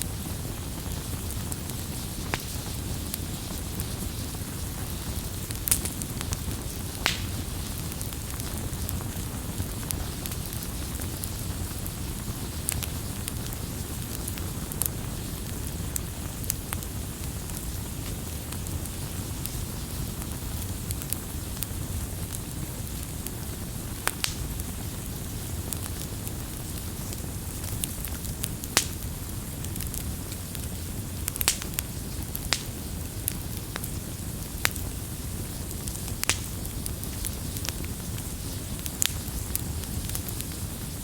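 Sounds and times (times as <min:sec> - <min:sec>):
fire pops and crackles: 0:00.0 - 0:41.0
wood fire rumbling: 0:00.0 - 0:41.0.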